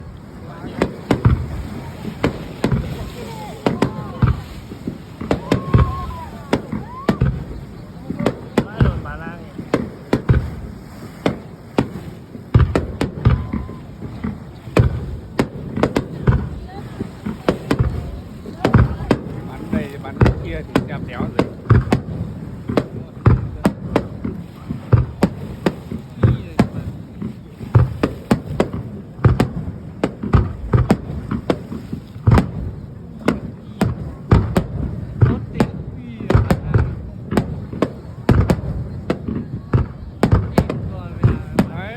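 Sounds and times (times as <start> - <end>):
fireworks bangs with rumble: 0.0 - 41.9.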